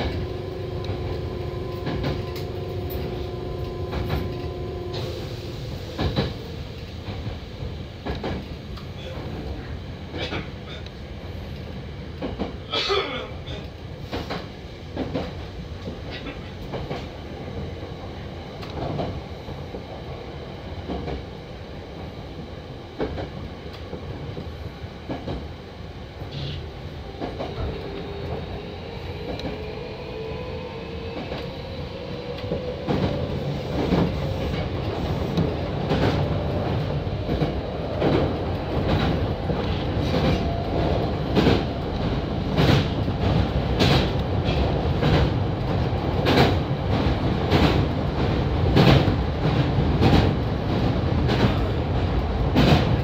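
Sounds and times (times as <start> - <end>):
electric train rumbling: 0.0 - 53.0.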